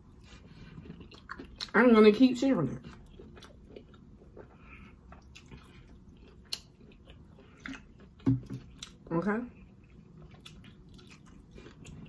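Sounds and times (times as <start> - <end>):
close chewing: 0.0 - 1.9, 2.6 - 12.0.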